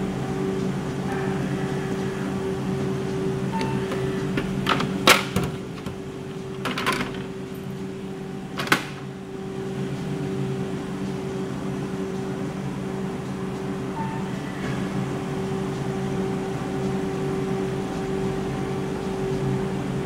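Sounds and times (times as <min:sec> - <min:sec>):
ice cream machine humming: 0:00.0 - 0:20.0.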